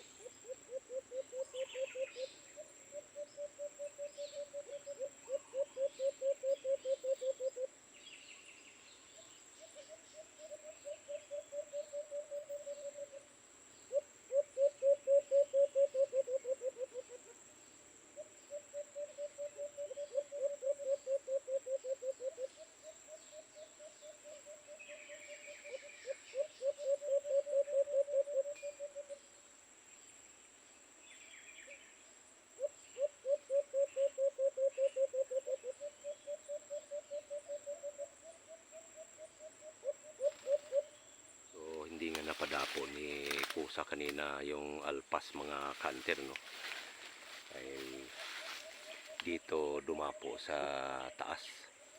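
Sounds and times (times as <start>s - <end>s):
faint bird chirps: 0.0s - 51.9s
high insect whine: 0.0s - 51.9s.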